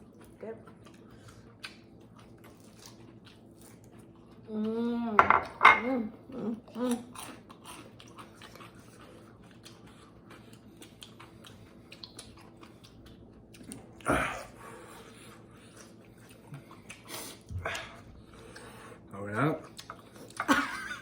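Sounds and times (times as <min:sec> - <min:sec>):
people chewing and eating: 0:00.0 - 0:21.0.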